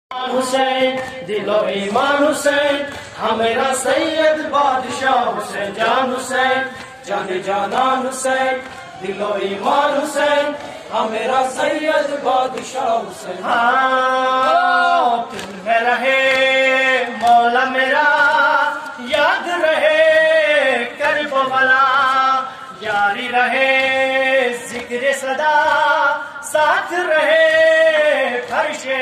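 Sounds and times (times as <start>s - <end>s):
lead reciter singing long phrases: 0.1s - 29.0s
voices joining in chant: 0.1s - 29.0s.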